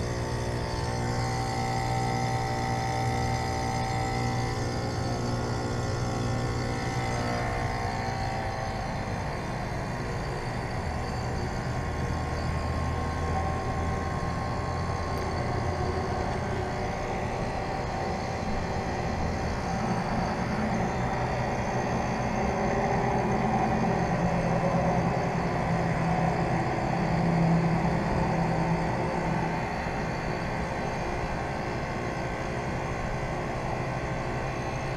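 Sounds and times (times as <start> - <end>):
heat pump compressor humming: 0.0 - 34.9.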